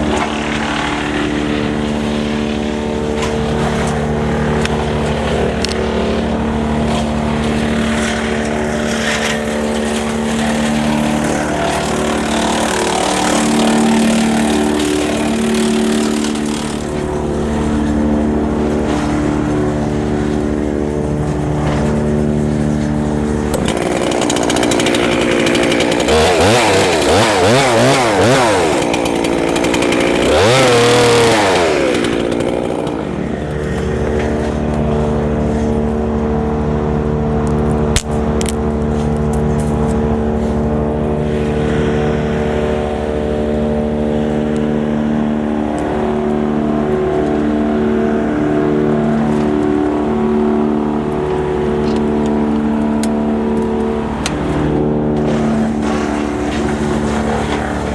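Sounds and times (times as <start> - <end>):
wood chipper running: 0.0 - 57.9.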